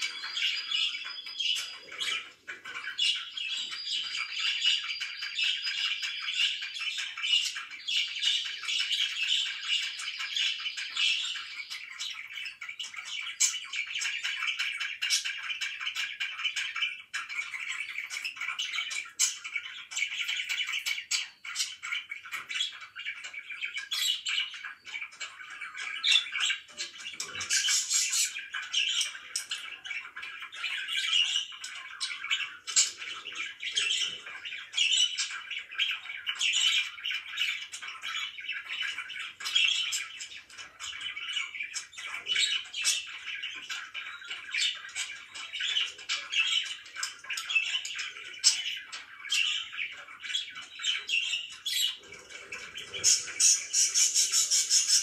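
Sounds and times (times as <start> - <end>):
bird chirps and squawks: 0.0 - 55.0
budgerigars chattering and warbling: 0.0 - 55.0.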